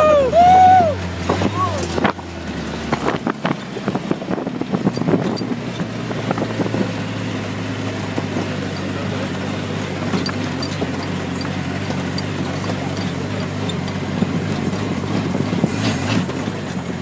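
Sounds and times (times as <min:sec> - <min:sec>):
off-road vehicle engine droning: 0:00.0 - 0:17.0
knocks and rattles: 0:01.2 - 0:07.1, 0:08.0 - 0:17.0.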